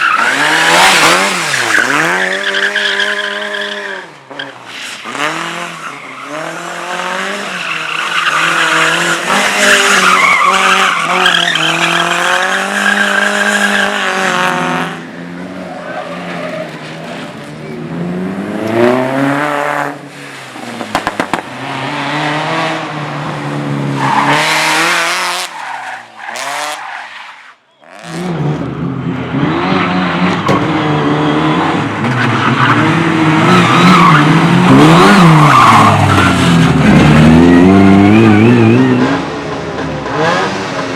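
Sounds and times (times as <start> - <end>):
race car engines revving: 0.0 - 27.0, 27.8 - 40.9.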